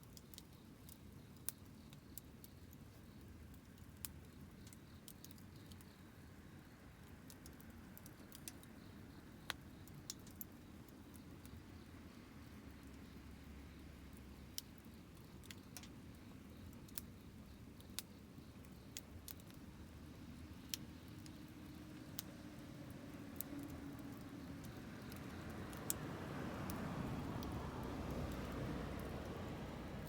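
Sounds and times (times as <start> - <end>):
campfire crackling and popping: 0.0 - 30.0
low rumble of fire: 0.0 - 30.0.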